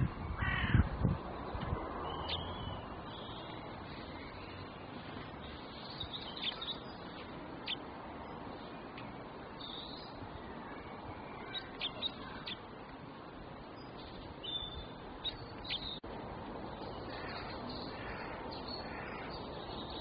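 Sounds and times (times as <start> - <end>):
songbirds chirping: 0.0 - 20.0
steady background hiss: 0.0 - 20.0.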